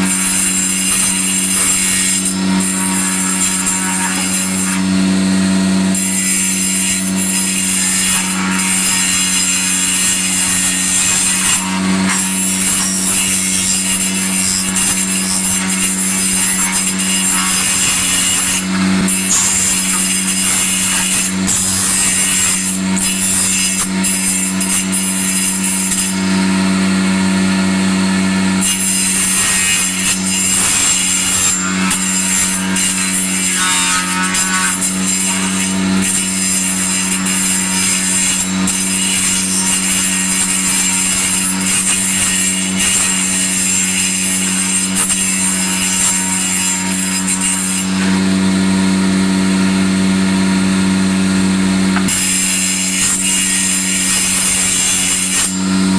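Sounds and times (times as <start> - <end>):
hiss of cutting wood: 0.0 - 4.9, 5.9 - 26.3, 28.6 - 48.3, 52.0 - 55.6
electric power tool running: 0.0 - 55.9.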